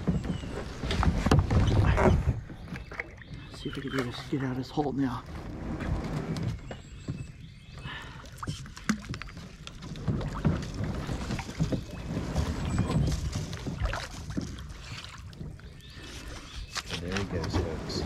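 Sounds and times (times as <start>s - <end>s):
paddle knocking on hull: 0.0s - 4.2s, 5.3s - 15.8s
paddle splashing in water: 0.0s - 4.6s, 5.2s - 18.0s.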